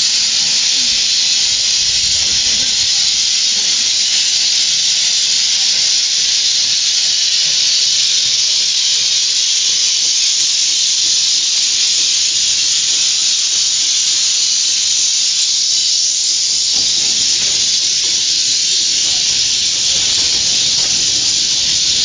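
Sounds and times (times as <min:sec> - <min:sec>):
steam hissing from locomotive: 0:00.0 - 0:22.0.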